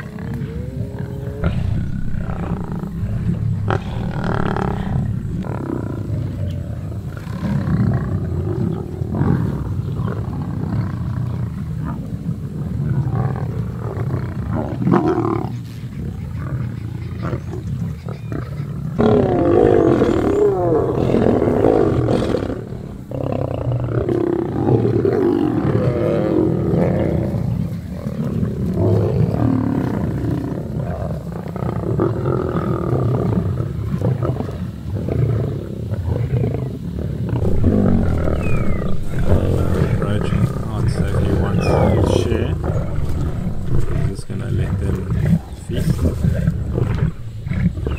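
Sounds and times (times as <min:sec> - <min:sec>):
lions growling: 0:00.0 - 0:47.9.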